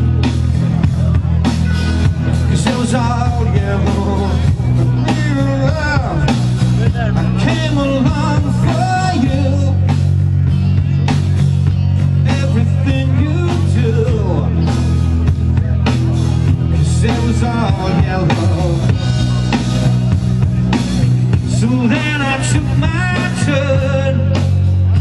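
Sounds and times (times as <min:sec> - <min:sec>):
bass guitar: 0:00.0 - 0:25.0
drum kit: 0:00.0 - 0:25.0
electric guitars: 0:00.0 - 0:25.0.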